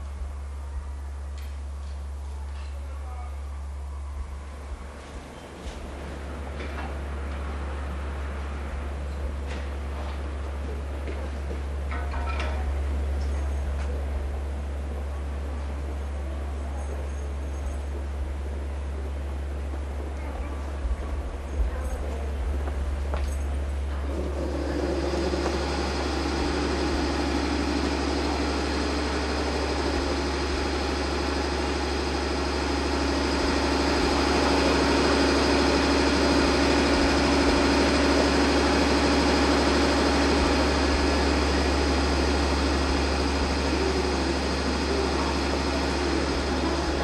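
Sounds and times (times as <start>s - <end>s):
electric locomotive humming: 0.0s - 47.0s.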